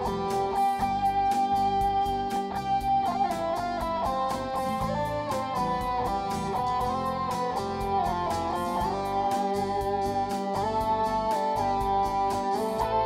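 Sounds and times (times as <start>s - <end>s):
guitar instrumental over a beat: 0.0s - 13.0s.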